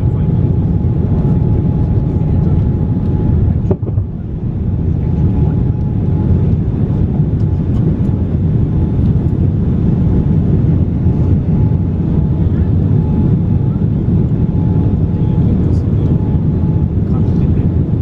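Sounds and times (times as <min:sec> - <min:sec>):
aircraft cabin engine rumble: 0:00.0 - 0:18.0
faint steady whine: 0:00.0 - 0:18.0.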